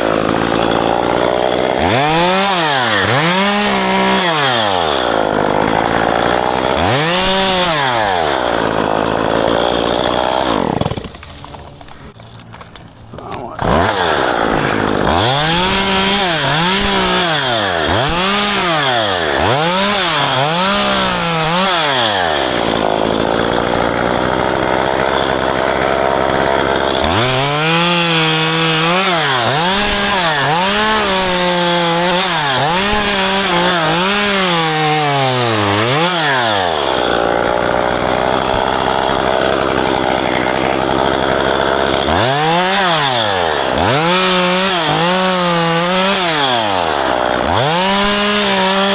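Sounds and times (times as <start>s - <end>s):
chainsaw revving and cutting: 0.0s - 12.2s, 13.2s - 48.9s.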